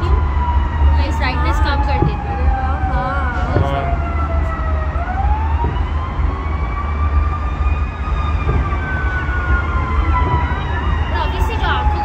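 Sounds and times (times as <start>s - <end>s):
fire engine sirens wailing: 0.0s - 12.0s
steady low rumble: 0.0s - 12.0s.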